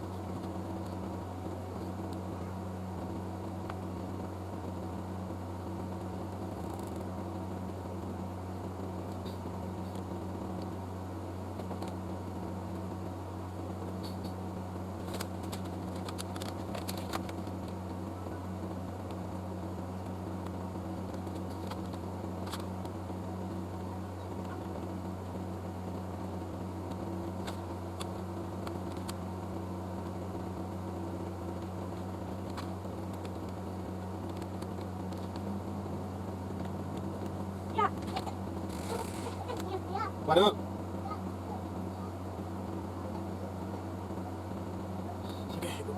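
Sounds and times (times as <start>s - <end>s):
low mechanical hum: 0.0s - 45.9s.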